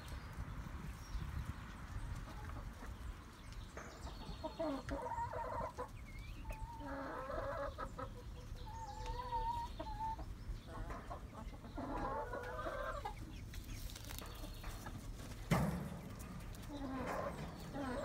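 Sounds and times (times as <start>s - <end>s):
hens clucking: 1.1s - 18.0s.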